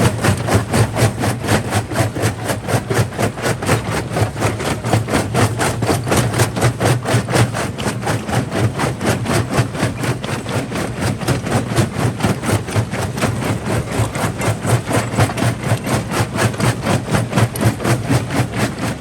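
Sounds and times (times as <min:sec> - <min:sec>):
jaw crusher humming and pulsing: 0:00.0 - 0:19.0.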